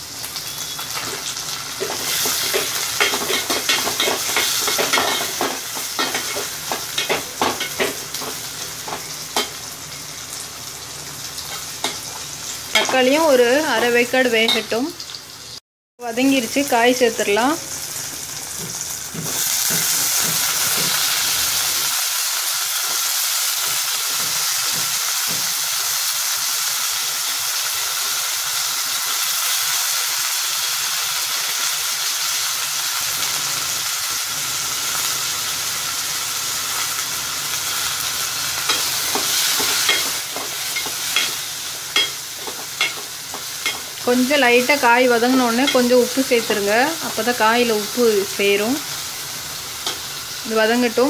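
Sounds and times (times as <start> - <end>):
vegetables sizzling in hot oil: 0.0 - 51.0.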